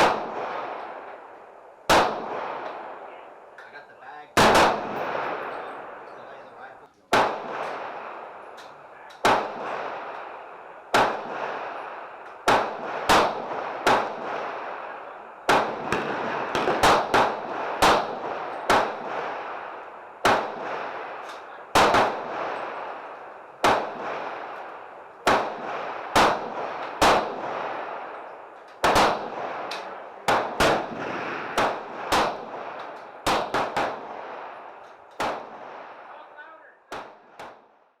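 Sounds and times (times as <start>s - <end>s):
gunshots with echo: 0.0s - 1.3s, 4.4s - 6.4s, 7.1s - 37.7s.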